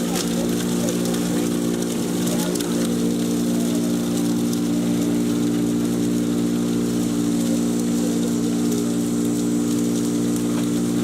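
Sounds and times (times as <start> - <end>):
chipper shredder motor hum: 0.0 - 11.0
continuous hiss: 0.0 - 11.0.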